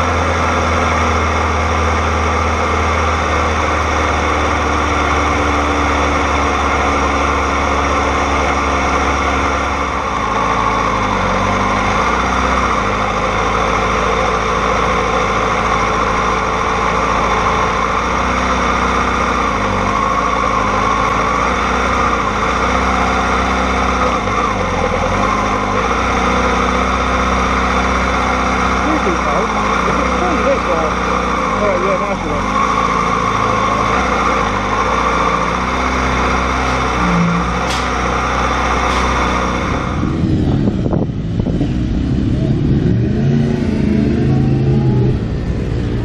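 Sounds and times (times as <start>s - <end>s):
motorcycle engine at low revs: 0.0s - 46.0s.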